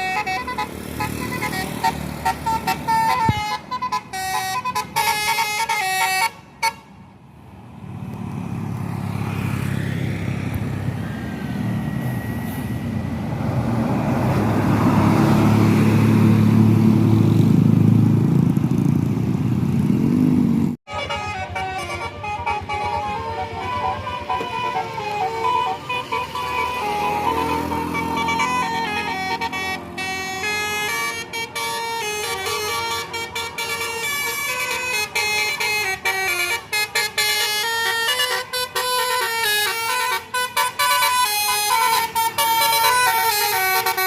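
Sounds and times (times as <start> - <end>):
bus diesel engine passing: 0.0 - 44.0.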